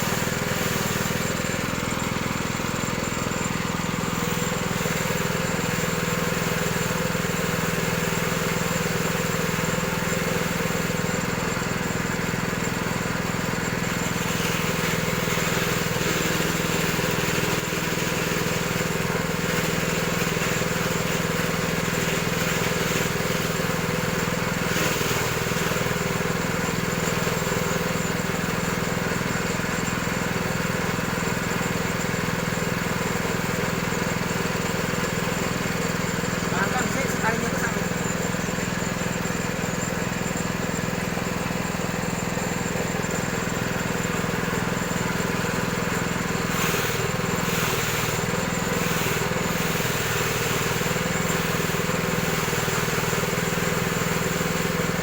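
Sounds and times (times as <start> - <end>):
shredding machine running: 0.0 - 55.0.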